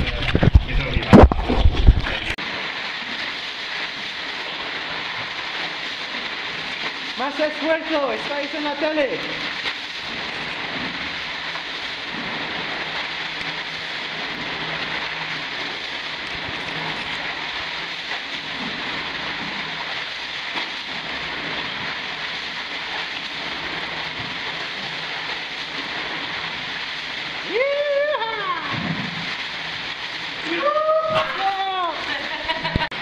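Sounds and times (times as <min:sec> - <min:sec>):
cave stream rushing water: 0:00.0 - 0:33.0.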